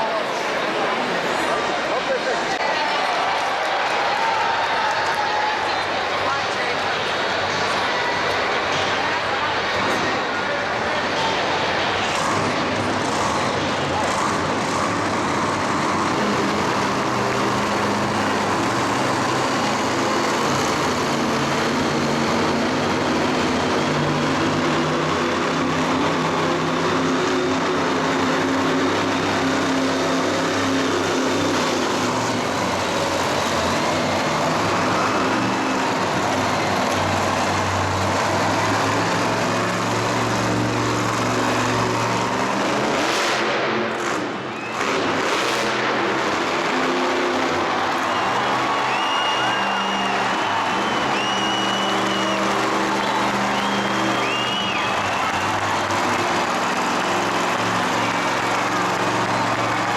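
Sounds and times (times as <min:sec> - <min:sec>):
motorsport engines revving: 0:00.0 - 0:59.9.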